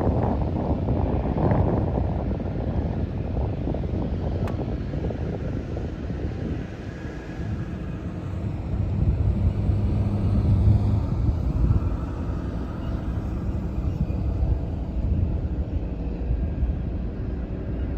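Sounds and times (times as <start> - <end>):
helicopter rotor rumble: 0.0 - 17.9.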